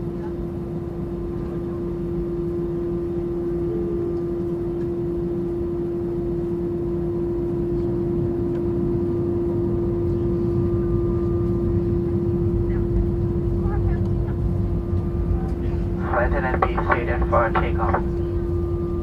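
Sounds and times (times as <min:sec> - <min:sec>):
airplane cabin rumble: 0:00.0 - 0:19.0
constant hum tone: 0:00.0 - 0:19.0.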